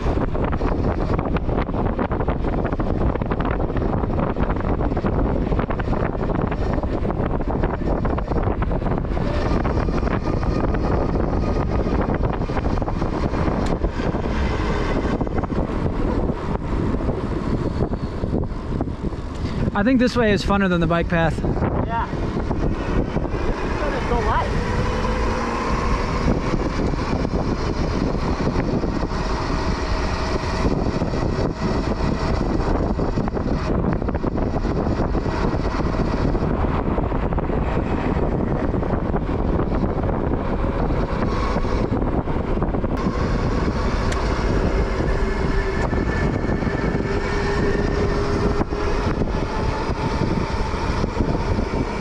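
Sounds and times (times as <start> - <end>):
road noise: 0.0 - 52.0
wind rushing over microphone: 0.0 - 52.0.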